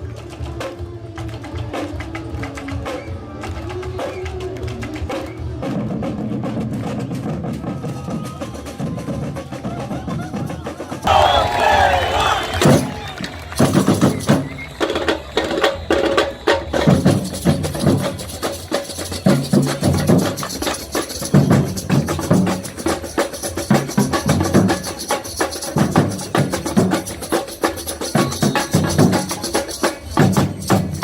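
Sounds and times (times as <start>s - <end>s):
samba drum ensemble: 0.0s - 31.0s.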